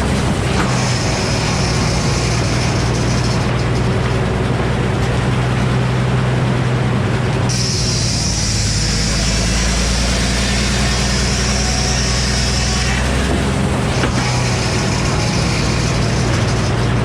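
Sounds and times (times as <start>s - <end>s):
sawmill blade cutting log: 0.0s - 6.4s, 7.4s - 17.0s
engine droning: 0.0s - 17.0s.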